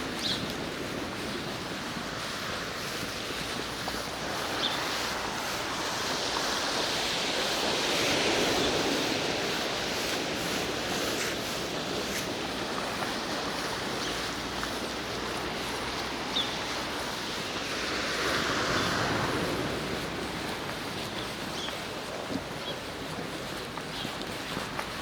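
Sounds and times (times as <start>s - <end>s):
outdoor ambience: 0.0s - 25.0s.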